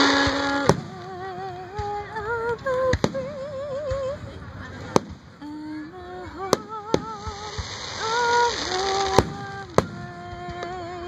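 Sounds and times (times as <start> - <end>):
fireworks banging: 0.0 - 11.0
fireworks hissing rush: 0.0 - 11.0.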